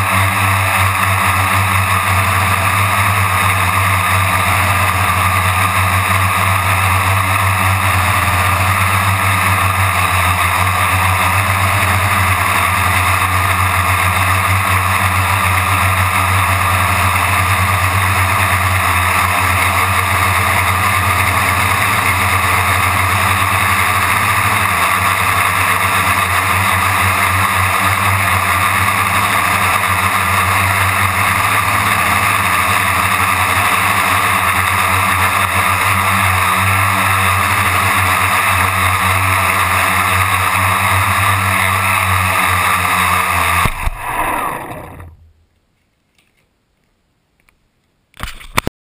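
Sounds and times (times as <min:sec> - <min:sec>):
drone propellers buzzing: 0:00.0 - 0:45.4.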